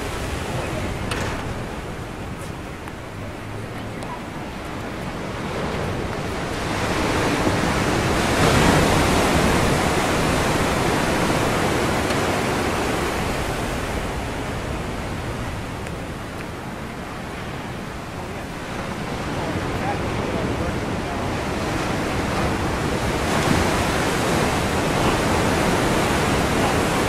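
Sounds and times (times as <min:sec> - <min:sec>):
ocean wave breaking: 0:00.0 - 0:27.0.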